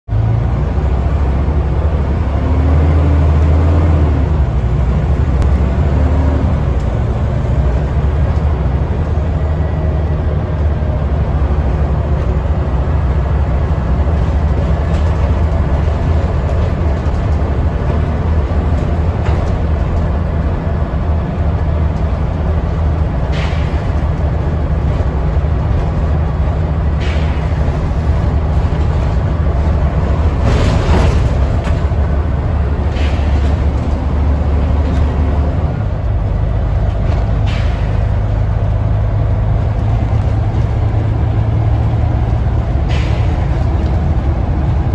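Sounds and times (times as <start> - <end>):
bus engine drone: 0.0 - 44.9
road and rattle noise: 0.0 - 44.9.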